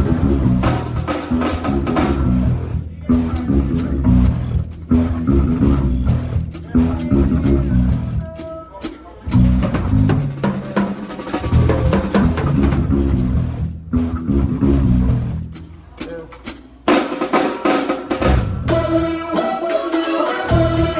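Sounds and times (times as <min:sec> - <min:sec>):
band playing reggae: 0:00.0 - 0:20.9.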